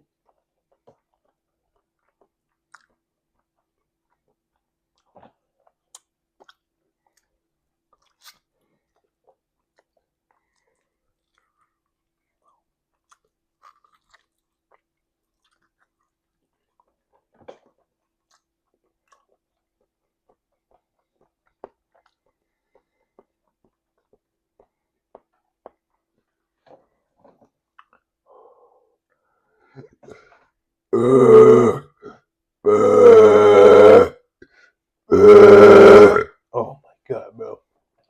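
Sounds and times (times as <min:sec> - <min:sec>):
person chewing food: 0:00.0 - 0:36.3.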